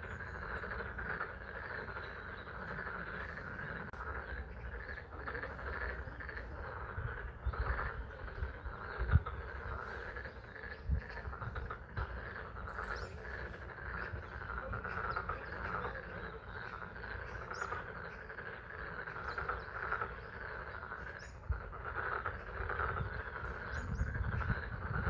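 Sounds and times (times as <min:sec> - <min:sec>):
chorus of frogs calling: 0:00.0 - 0:25.0.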